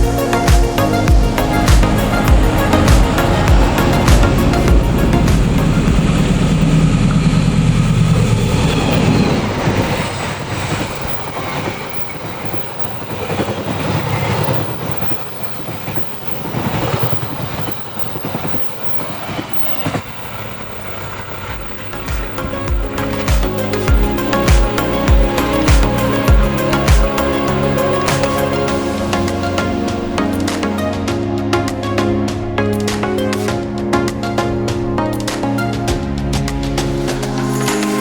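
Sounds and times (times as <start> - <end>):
train passing: 0.0 - 38.0.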